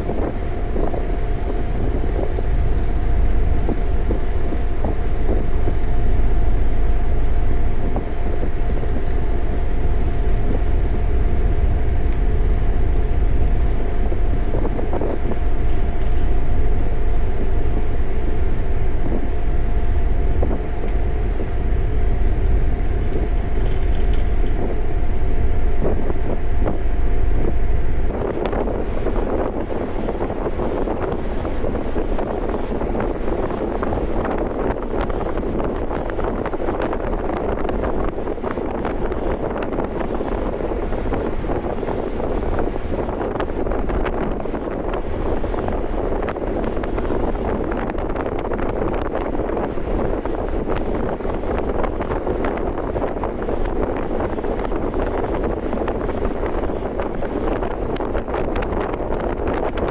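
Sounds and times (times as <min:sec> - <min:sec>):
faint constant hum: 0:00.0 - 0:59.9
low engine drone: 0:00.0 - 0:59.9
wind buffeting microphone: 0:00.0 - 0:59.9.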